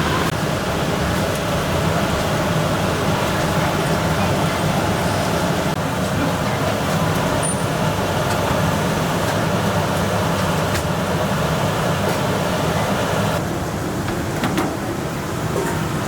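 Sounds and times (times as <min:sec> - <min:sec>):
kitchen burners and extractor roar: 0:00.0 - 0:16.0.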